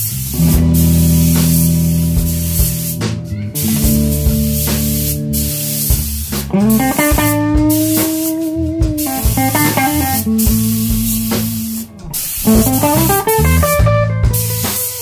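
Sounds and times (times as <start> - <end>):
guitar music: 0.0 - 15.0
spray gun hissing: 0.0 - 15.0.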